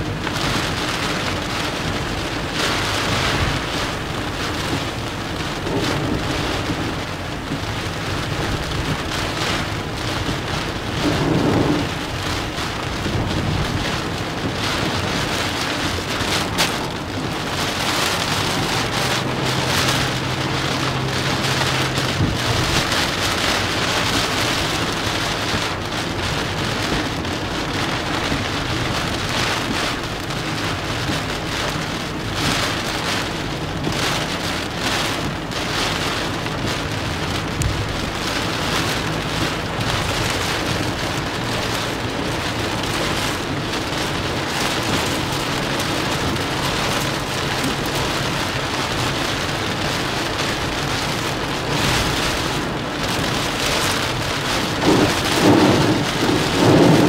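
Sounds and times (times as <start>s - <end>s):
heavy rain pelting car: 0.0s - 57.0s
tyres hissing on wet road: 0.0s - 57.0s.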